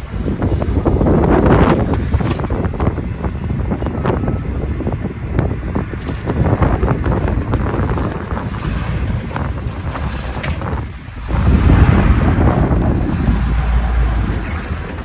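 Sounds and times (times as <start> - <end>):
off-road vehicle rumbling: 0.0 - 15.0
wind buffeting microphone: 0.0 - 15.0.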